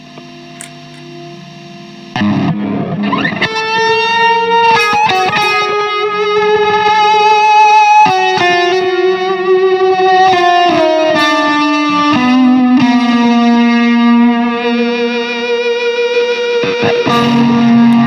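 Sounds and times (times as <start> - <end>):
electric guitar with delay: 0.0 - 18.0.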